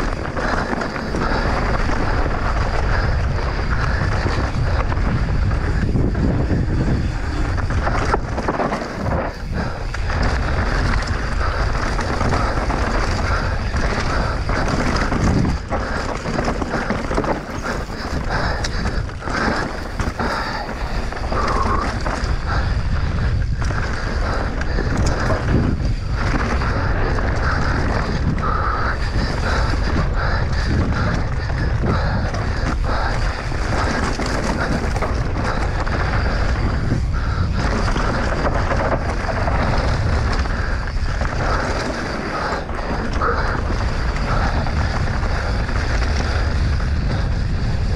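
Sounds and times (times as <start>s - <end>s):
bike rattling and knocking: 0.0s - 47.9s
tyres rumbling on dirt: 0.0s - 47.9s
wind noise on microphone: 0.0s - 47.9s.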